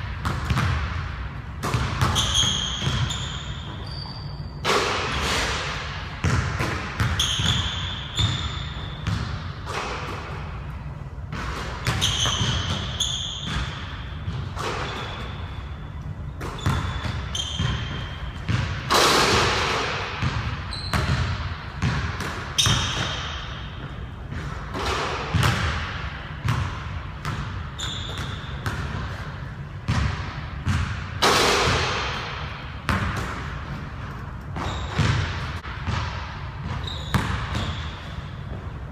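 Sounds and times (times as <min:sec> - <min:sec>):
basketballs bouncing on wood floor: 0:00.0 - 0:10.6, 0:11.3 - 0:38.9
sneaker squeaks: 0:01.6 - 0:38.9.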